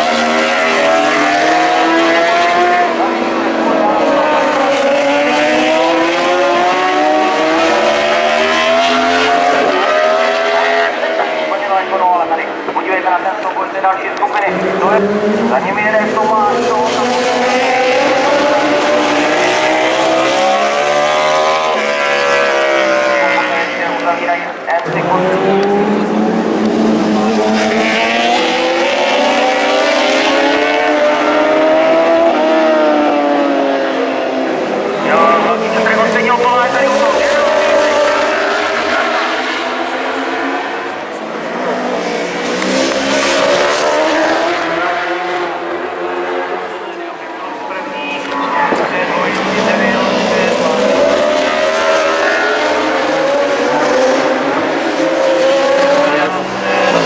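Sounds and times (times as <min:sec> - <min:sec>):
race motorcycle engines revving: 0:00.0 - 0:57.0.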